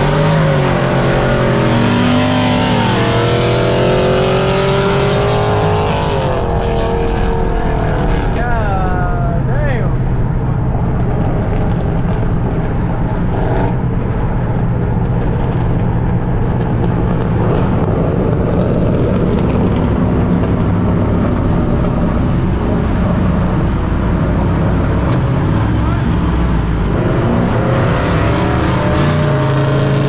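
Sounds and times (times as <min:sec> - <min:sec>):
road noise: 0:00.0 - 0:30.0
vehicle engine humming: 0:00.0 - 0:30.0.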